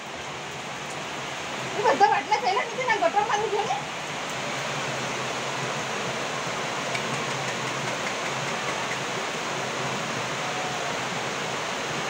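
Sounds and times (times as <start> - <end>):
heavy rain: 0.0 - 12.0
rushing floodwater: 0.0 - 12.0.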